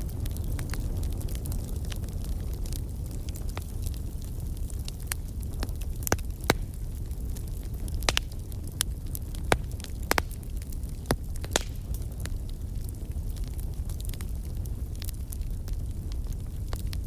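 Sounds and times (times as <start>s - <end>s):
fire rumbling: 0.0s - 17.0s
logs crackling and popping: 0.0s - 17.0s.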